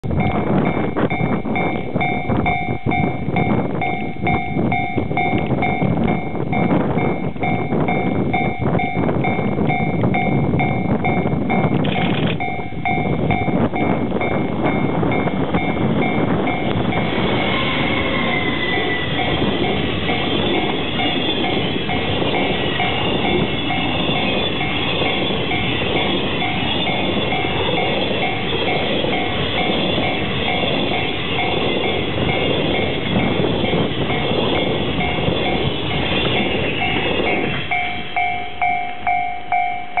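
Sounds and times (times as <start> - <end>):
freight train rumbling on rails: 0.0 - 40.0
level-crossing warning bell: 0.0 - 40.0.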